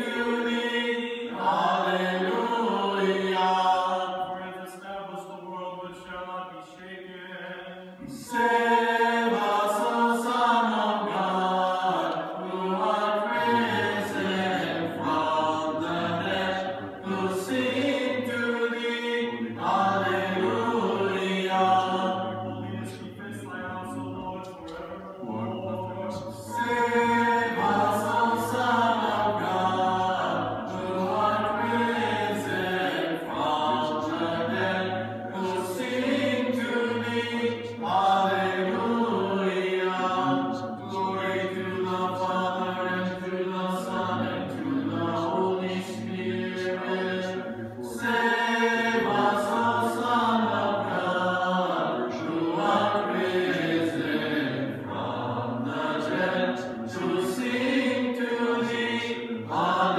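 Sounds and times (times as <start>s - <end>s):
choir chanting a cappella: 0.0s - 59.9s.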